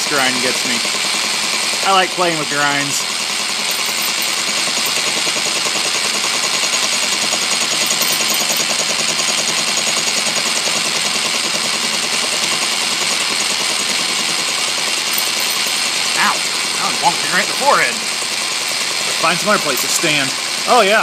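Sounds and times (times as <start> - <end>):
lathe running: 0.0 - 21.0
cutter striking metal: 3.5 - 20.6.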